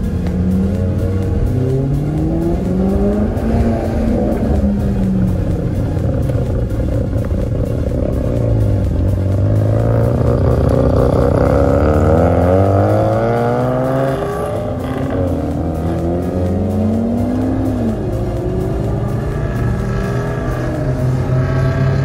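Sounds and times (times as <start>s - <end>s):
car engines revving: 0.0s - 22.0s
low engine drone: 0.0s - 22.0s.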